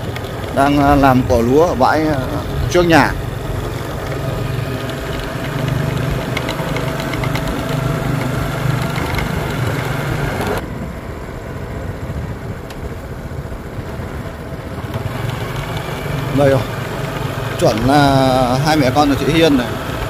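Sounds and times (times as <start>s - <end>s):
quiet rumble: 0.0s - 20.0s
vehicle engine running: 0.0s - 20.0s.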